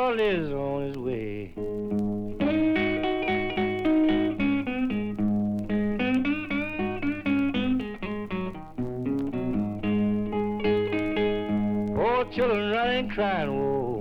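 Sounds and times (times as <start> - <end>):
solo blues guitar: 0.0 - 14.0.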